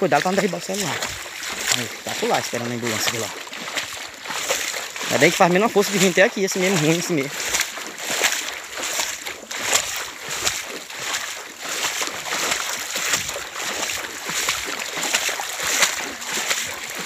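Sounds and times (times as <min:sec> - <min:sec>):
footsteps splashing in water: 0:00.0 - 0:17.0.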